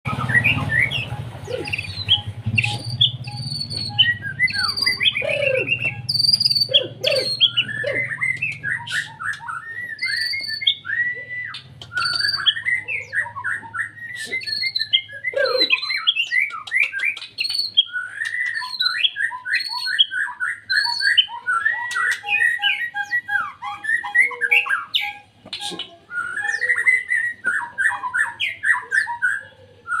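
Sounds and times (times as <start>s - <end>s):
songbird singing rapid whistles: 0.1s - 30.0s.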